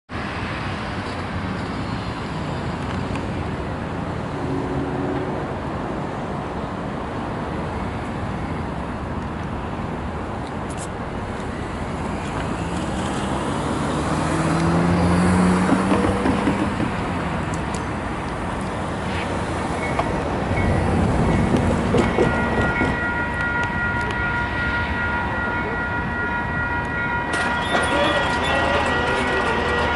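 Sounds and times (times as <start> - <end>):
road traffic noise: 0.1 - 29.9.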